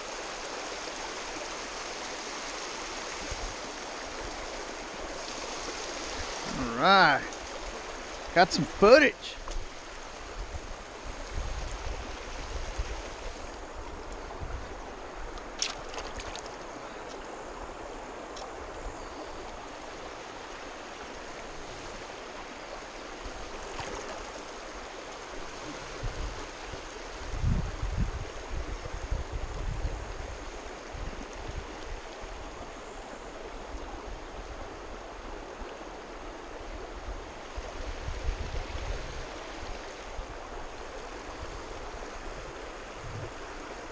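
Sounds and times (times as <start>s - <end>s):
water running over rocks: 0.0s - 43.9s.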